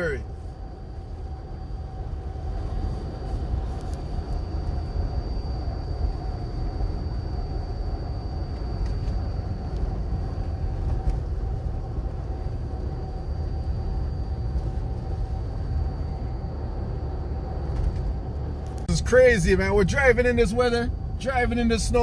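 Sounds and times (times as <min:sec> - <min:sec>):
car driving on snowy road: 0:00.0 - 0:22.0
faint steady whine: 0:00.0 - 0:22.0.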